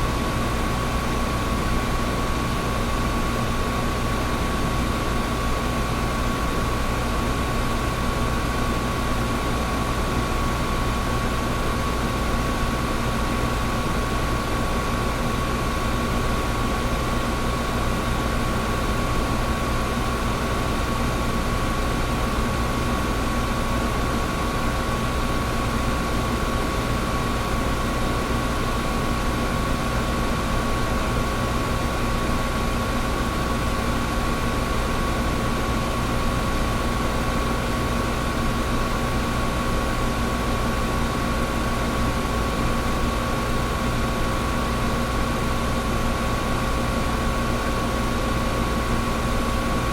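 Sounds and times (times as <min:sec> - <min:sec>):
air conditioner running: 0:00.0 - 0:49.9.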